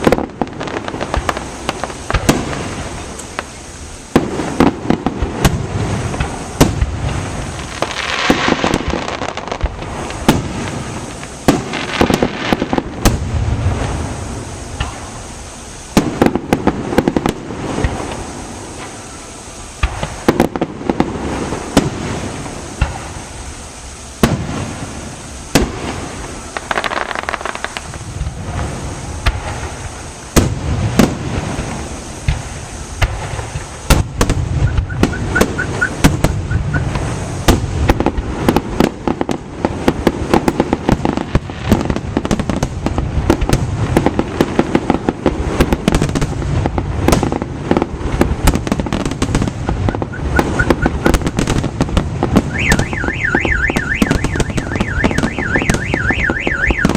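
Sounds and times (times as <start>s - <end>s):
firework shells booming: 0.0s - 15.3s, 15.9s - 23.4s, 24.2s - 56.9s
firework bangs and crackles: 0.0s - 56.9s.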